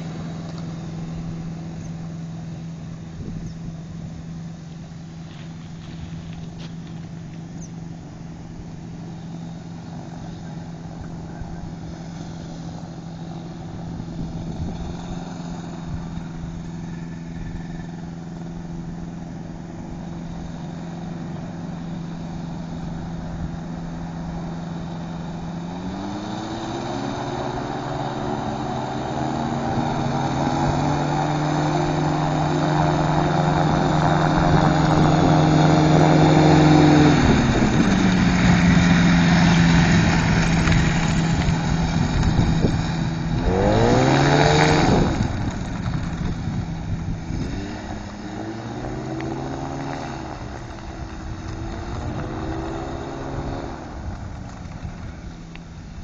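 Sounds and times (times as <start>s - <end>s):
microlight engine and propeller revving: 0.0s - 56.0s.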